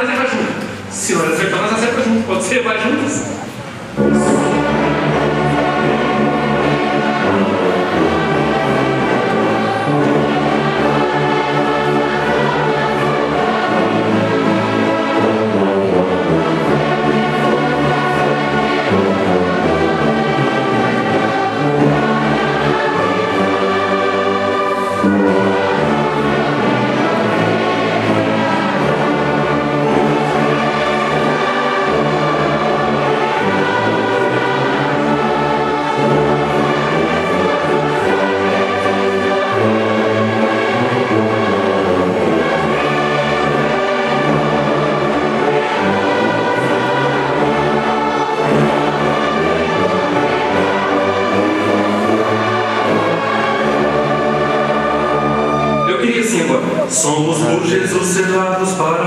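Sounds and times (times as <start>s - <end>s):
orchestra playing slow hymn: 0.0s - 59.0s
tuba: 0.0s - 59.0s.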